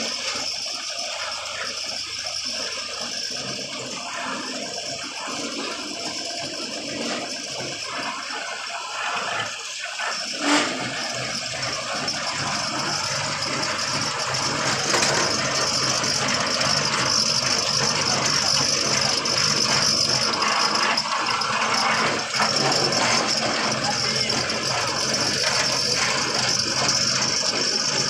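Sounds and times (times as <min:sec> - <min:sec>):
piling rig engine running: 0:00.0 - 0:28.0.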